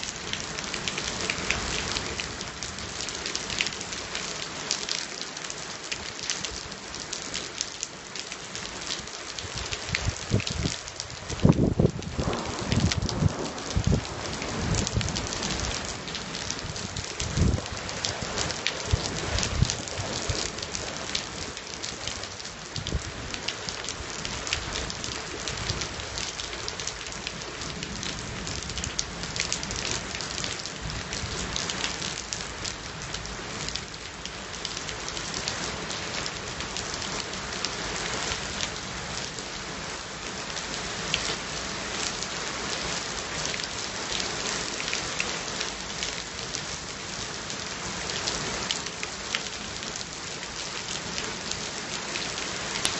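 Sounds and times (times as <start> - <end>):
raindrops ticking close by: 0.0 - 52.9
steady rain hiss: 0.0 - 52.9.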